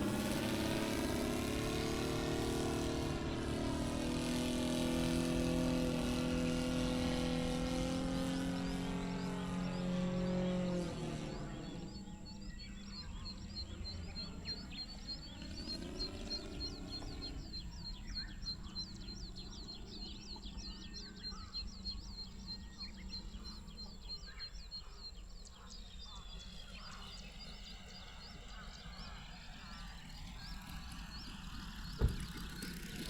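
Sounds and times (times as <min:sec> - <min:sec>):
bird chirping rapidly: 0:00.0 - 0:33.0
distant model plane engine hum: 0:00.0 - 0:33.0.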